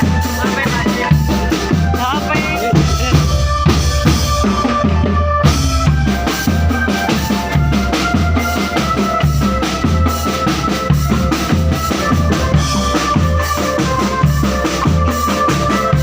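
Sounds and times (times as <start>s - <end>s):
bass drum: 0.0s - 16.0s
sustained melodic line: 0.0s - 16.0s.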